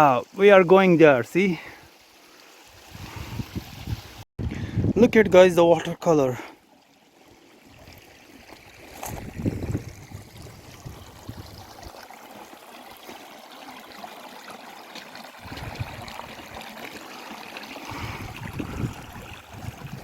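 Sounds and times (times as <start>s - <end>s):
stream running over rocks: 0.0s - 4.3s, 5.4s - 20.0s.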